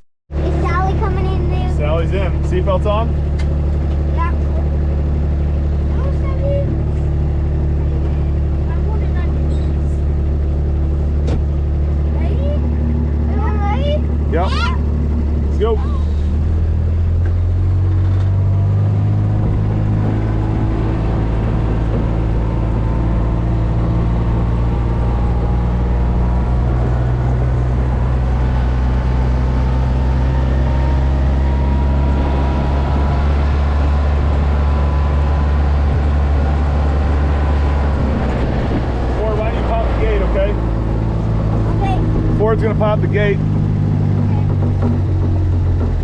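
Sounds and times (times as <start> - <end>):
utility vehicle engine humming: 0.0 - 46.0.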